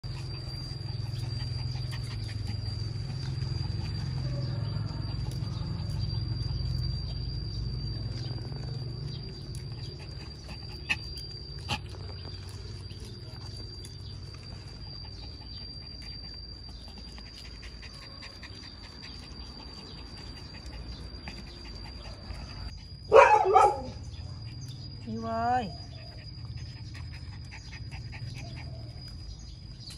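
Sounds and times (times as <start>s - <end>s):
dog panting: 0.0s - 7.6s, 8.7s - 23.1s, 24.0s - 29.9s.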